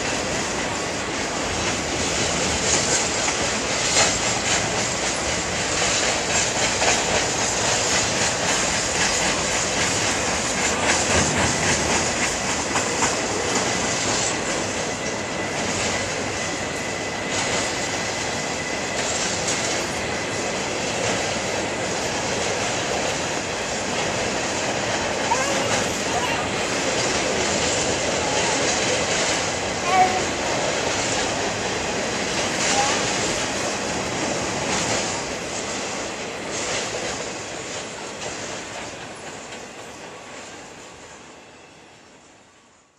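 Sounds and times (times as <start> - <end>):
train wheels rolling on rails: 0.0 - 42.9.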